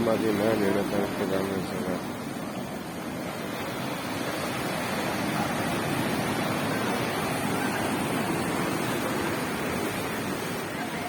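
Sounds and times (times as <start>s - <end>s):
ocean waves breaking on shore: 0.0s - 11.0s.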